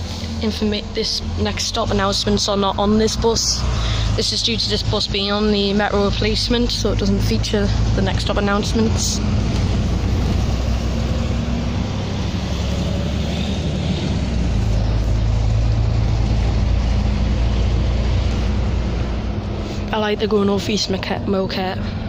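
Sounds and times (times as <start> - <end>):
bus diesel engine drone: 0.0 - 22.0
road and tyre noise: 0.0 - 22.0.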